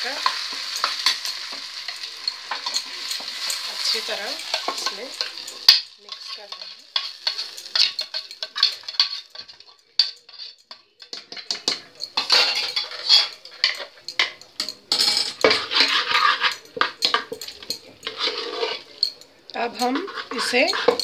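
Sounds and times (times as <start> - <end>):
metal spoon scraping a pan: 0.0 - 21.0.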